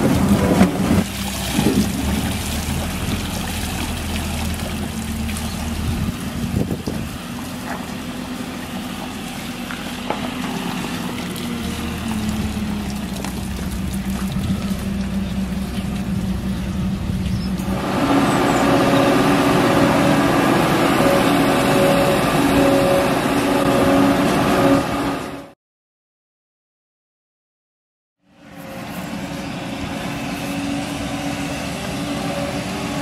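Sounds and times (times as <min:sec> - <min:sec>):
diesel engine running: 0:00.0 - 0:25.6, 0:28.3 - 0:33.0.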